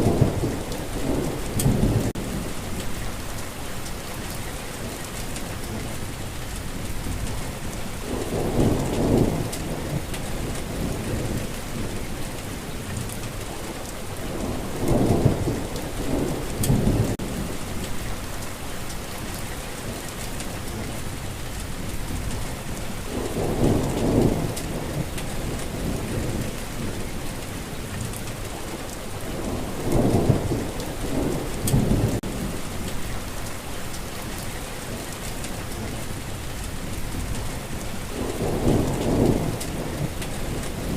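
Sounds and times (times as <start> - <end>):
thunder rumbling: 0.0 - 3.4, 6.8 - 18.4, 21.7 - 34.4, 35.2 - 40.9
heavy rain: 0.0 - 40.9.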